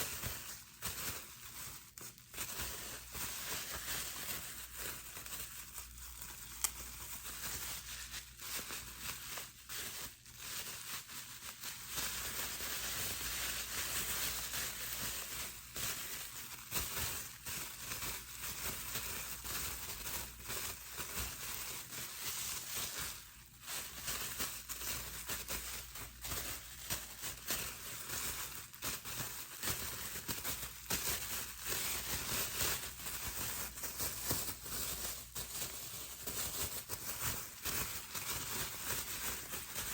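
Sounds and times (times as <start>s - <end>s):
bubble wrap crinkling and popping: 0.0s - 39.9s.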